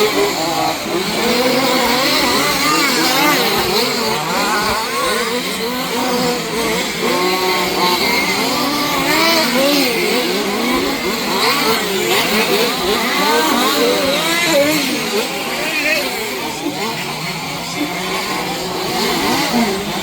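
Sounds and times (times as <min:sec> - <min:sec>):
small engines revving: 0:00.0 - 0:20.0.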